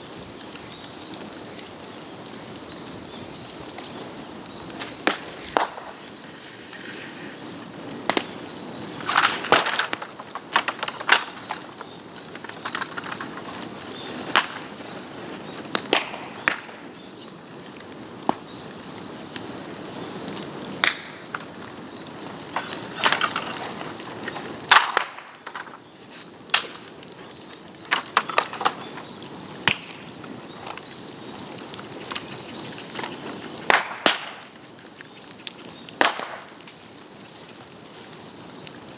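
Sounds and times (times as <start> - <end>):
dry bamboo cracking: 2.3 - 18.6, 19.2 - 38.9.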